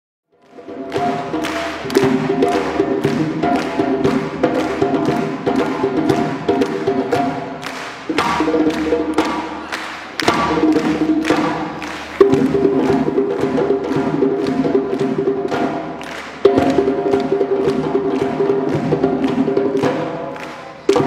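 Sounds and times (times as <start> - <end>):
hand drums playing fast rhythm: 0.4 - 21.0.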